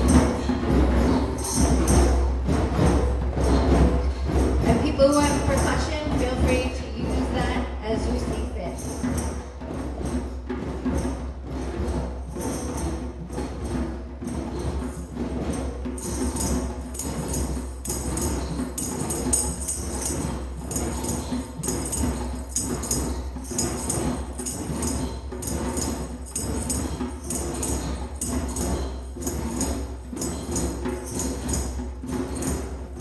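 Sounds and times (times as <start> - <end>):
hand drums playing: 0.0 - 33.0
tambourine jingling: 0.0 - 33.0.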